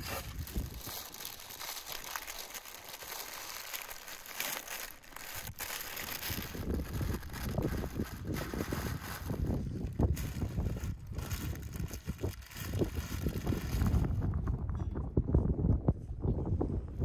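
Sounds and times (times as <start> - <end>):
paper crinkling and rustling: 0.0 - 14.2.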